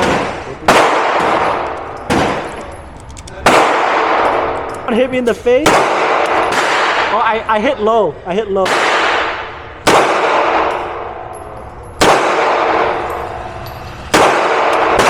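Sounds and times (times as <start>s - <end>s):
pistol shots ringing: 0.0s - 7.8s, 8.6s - 15.0s.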